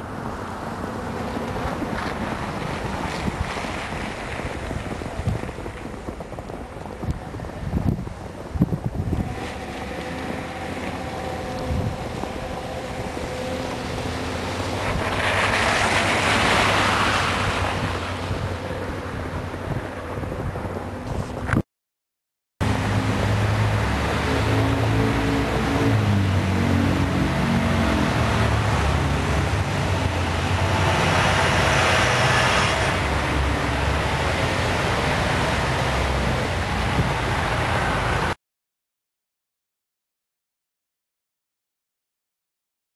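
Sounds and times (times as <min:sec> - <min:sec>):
truck driving by: 0:00.0 - 0:21.1, 0:22.6 - 0:38.4
wind blowing across microphone: 0:00.0 - 0:21.6, 0:22.6 - 0:38.4.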